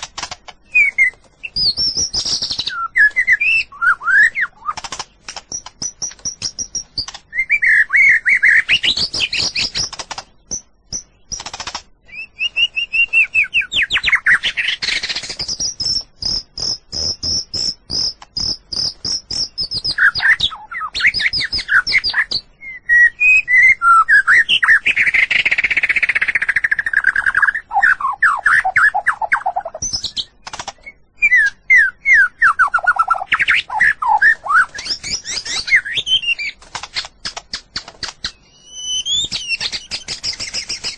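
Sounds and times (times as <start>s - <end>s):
bird singing whistles and trills: 0.6s - 37.1s, 38.0s - 40.9s.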